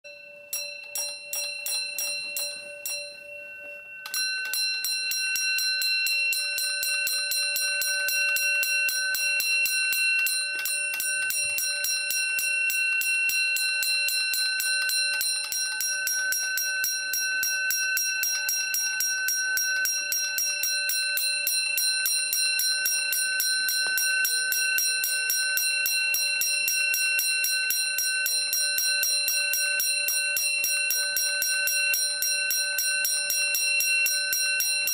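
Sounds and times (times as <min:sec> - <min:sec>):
fire alarm bell ringing: 0:00.0 - 0:34.9.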